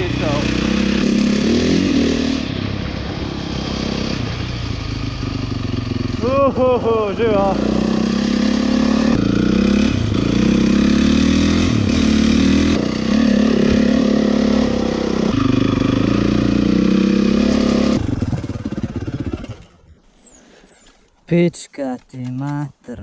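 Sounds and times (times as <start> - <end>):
dirt bike engine revving: 0.0 - 19.8.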